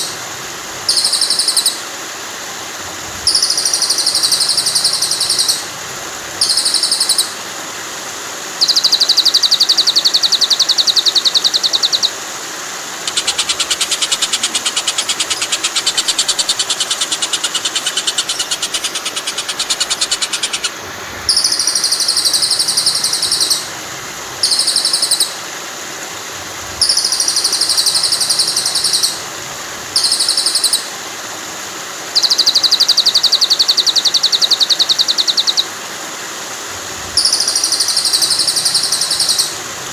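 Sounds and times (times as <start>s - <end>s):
songbird buzzy trill: 0.0s - 2.3s, 3.2s - 7.5s, 8.5s - 25.6s, 26.6s - 31.1s, 32.0s - 35.9s, 37.1s - 39.9s
flowing water rushing: 0.0s - 39.9s.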